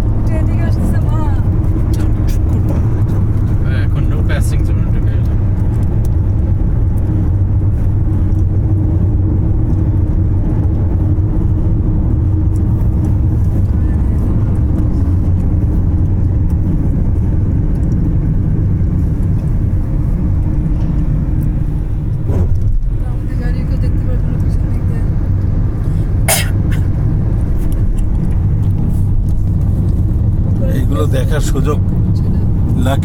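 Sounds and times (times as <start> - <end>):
road and engine rumble in car: 0.0 - 33.0.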